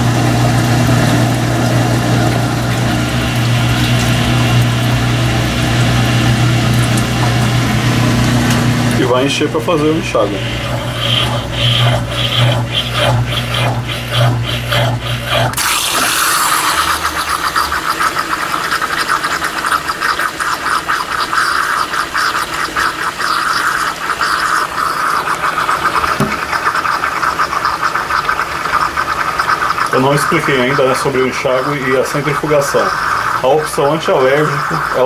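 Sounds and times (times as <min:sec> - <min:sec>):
washing machine motor hum: 0:00.0 - 0:35.0
water rushing into tub: 0:00.0 - 0:35.0.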